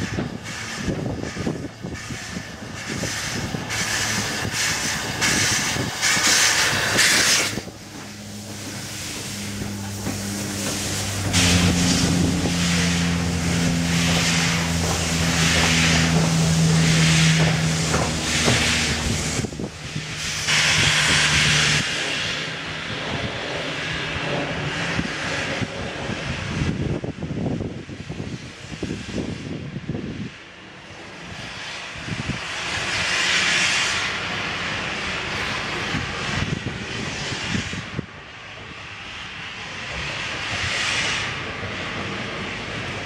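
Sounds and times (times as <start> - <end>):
steam hissing: 0.0 - 43.0
steam locomotive exhaust beats: 0.0 - 43.0.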